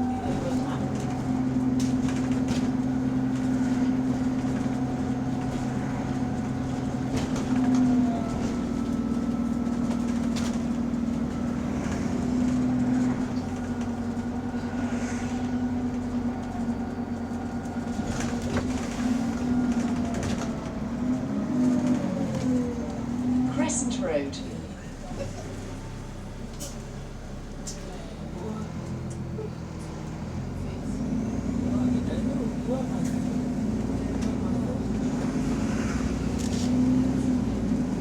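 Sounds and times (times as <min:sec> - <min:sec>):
bus engine droning: 0:00.0 - 0:38.0.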